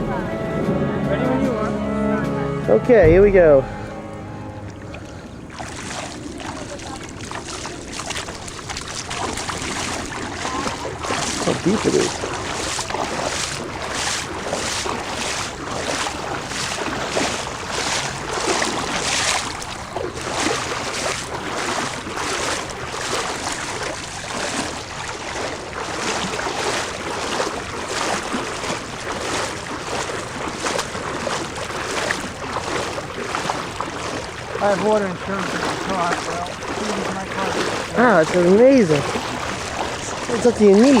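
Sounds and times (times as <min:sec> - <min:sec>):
wading through water: 0:00.0 - 0:41.0.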